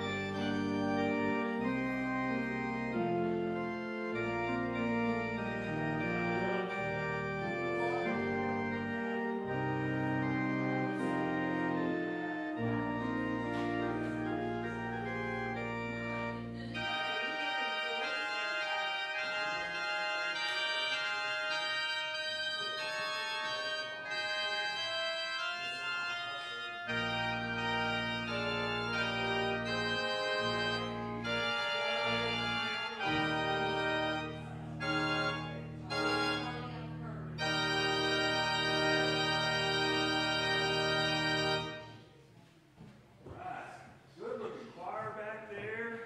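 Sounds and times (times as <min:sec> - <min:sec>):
organ playing slow chords: 0:00.0 - 0:42.1.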